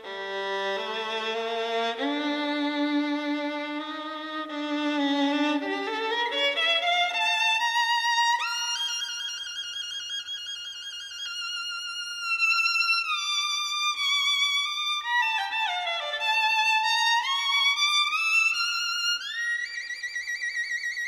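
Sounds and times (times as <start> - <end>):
violin-like melody: 0.0 - 21.0.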